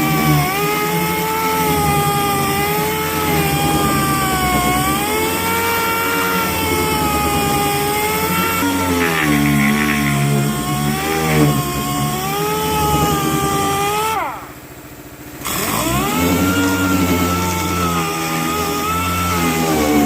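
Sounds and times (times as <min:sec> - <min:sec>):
power sander whining: 0:00.0 - 0:20.0.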